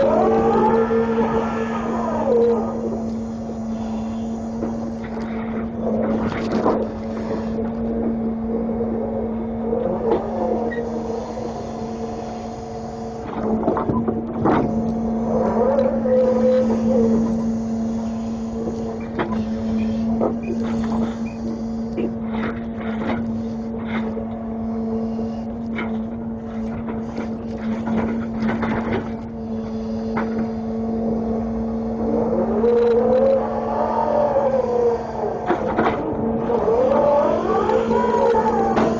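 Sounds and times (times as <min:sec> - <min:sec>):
engine and hydraulic hum: 0:00.0 - 0:38.9.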